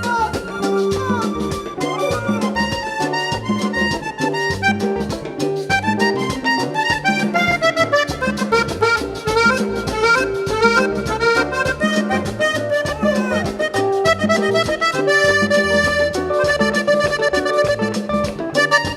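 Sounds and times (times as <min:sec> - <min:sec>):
accordion melody: 0:00.0 - 0:18.9
hand percussion beat: 0:00.0 - 0:18.9
repeating bass line: 0:00.0 - 0:18.9.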